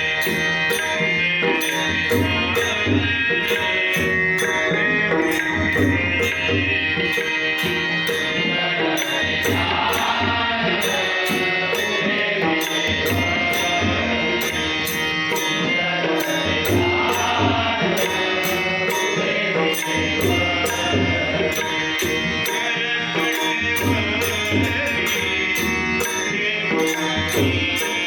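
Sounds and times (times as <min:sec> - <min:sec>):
person singing devotional melody: 0:00.0 - 0:28.0
tabla and pakhawaj drums: 0:00.0 - 0:28.0.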